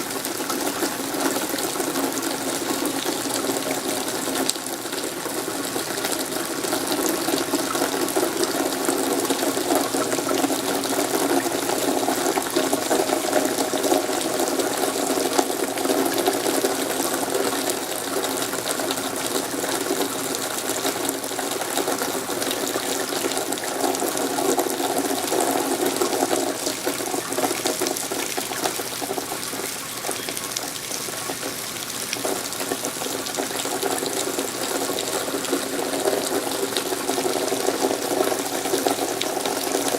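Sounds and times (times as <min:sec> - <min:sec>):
rain drops ticking: 0:00.0 - 0:39.9
running water: 0:00.0 - 0:39.9.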